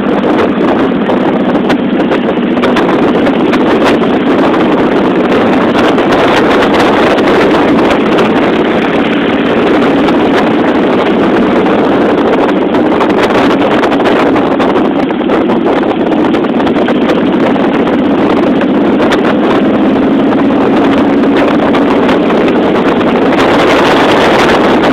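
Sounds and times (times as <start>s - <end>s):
motorcycle engine running: 0.0s - 24.9s
wind rush on microphone: 0.0s - 24.9s.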